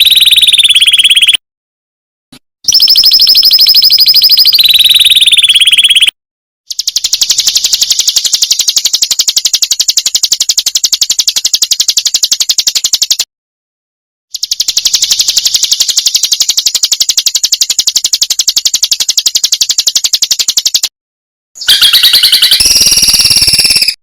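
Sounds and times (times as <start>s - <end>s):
high-pitched bird trills: 0.0s - 1.4s, 2.7s - 6.1s, 6.7s - 12.7s, 14.4s - 20.8s, 21.6s - 24.0s.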